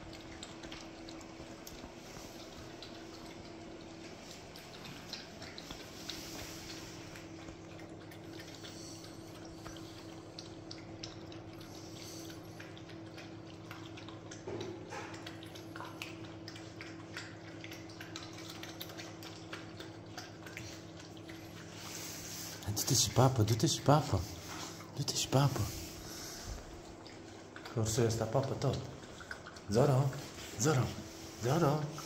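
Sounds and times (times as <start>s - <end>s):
puppies chewing and smacking: 0.0s - 32.0s.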